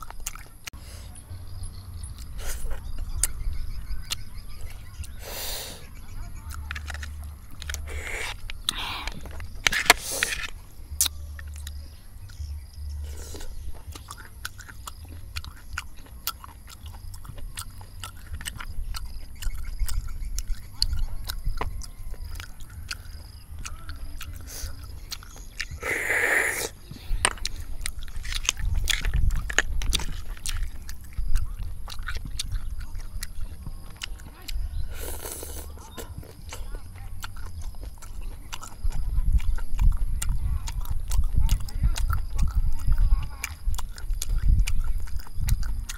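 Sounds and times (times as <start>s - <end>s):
snail shells clicking: 0.0s - 0.8s, 1.7s - 45.9s
chewing and wet mouth sounds: 0.0s - 45.9s.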